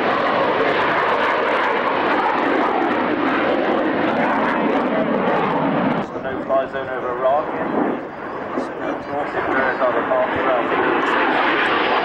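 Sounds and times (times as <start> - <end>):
jet engine roaring overhead: 0.0 - 12.0.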